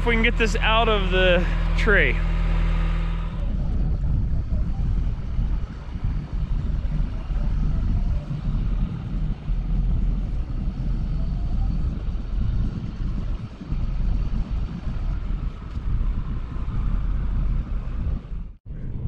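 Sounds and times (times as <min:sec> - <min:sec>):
tractor diesel engine: 0:00.0 - 0:18.2.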